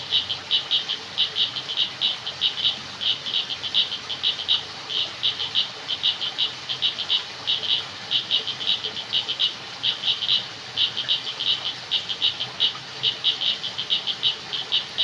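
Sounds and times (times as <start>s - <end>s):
faint steady hiss: 0.0s - 15.0s
frogs calling: 0.0s - 15.0s.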